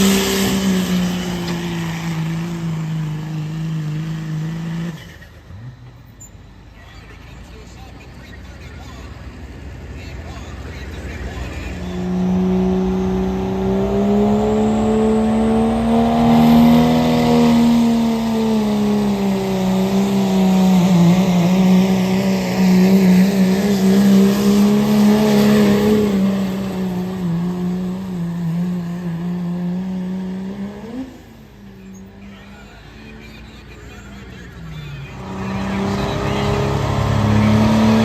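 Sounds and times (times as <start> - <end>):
diesel truck engine revving hard: 0.0 - 5.8, 9.3 - 31.6, 33.8 - 38.0.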